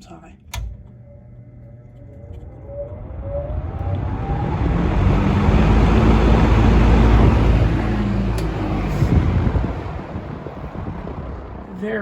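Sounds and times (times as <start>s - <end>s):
box fan rushing air: 0.5s - 12.0s.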